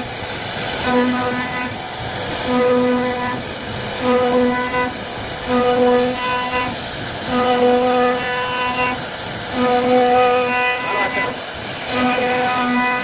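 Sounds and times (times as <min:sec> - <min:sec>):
router cutting wood: 0:00.8 - 0:13.0.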